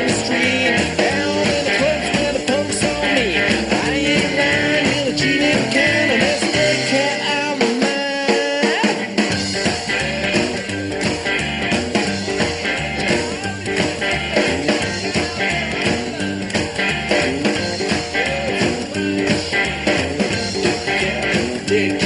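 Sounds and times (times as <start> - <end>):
rock and roll band playing: 0.0 - 22.0.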